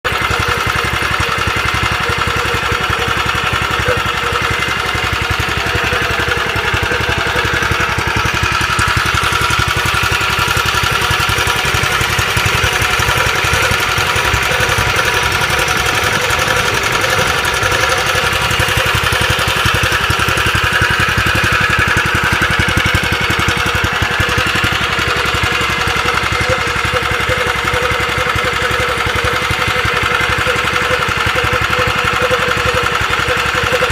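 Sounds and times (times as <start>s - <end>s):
small engine running steadily: 0.0s - 33.9s.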